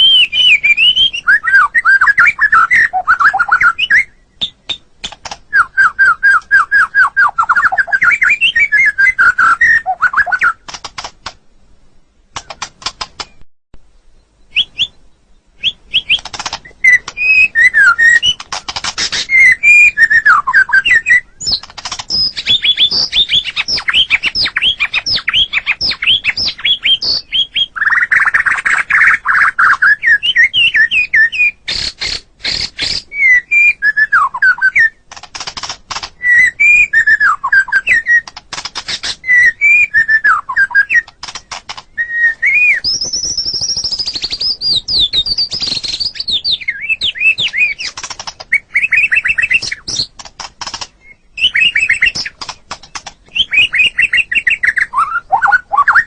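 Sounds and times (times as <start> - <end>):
bird singing whistled song: 0.0 - 4.9, 5.5 - 10.7, 14.0 - 35.0, 36.2 - 38.4, 39.0 - 41.2, 41.8 - 50.1, 51.0 - 56.0.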